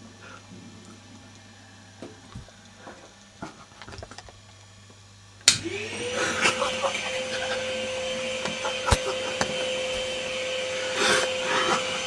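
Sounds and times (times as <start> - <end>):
vacuum cleaner running: 0.0 - 4.2, 5.4 - 12.0.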